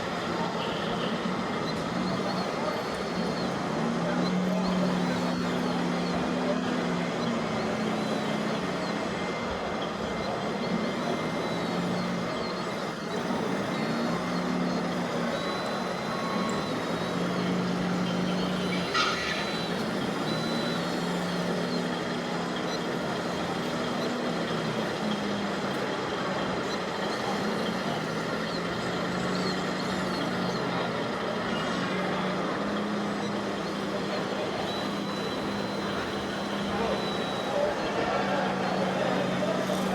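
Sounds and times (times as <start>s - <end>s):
model truck motor hum: 0.0s - 39.9s.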